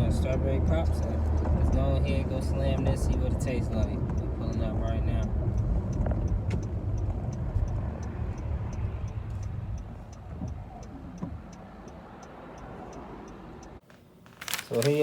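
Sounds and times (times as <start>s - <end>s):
engine and road rumble: 0.0s - 15.0s
car turn signal clicking: 1.3s - 13.8s.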